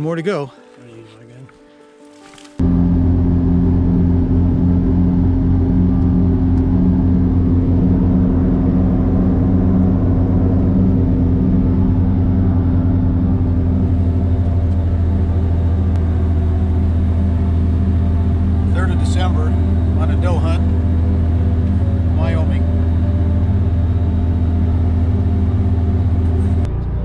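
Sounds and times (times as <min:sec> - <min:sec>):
road noise: 0:00.0 - 0:27.0
vehicle engine drone: 0:02.4 - 0:27.0.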